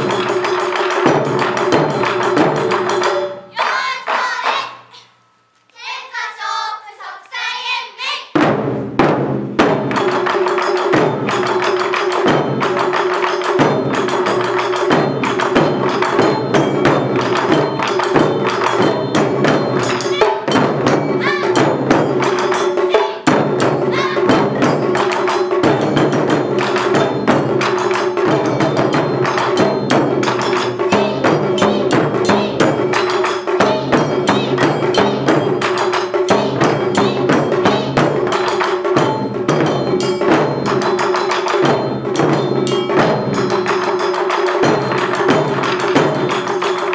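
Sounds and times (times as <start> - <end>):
large barrel drums: 0.0 - 4.9, 8.3 - 46.9
small high-pitched drums: 0.0 - 46.9.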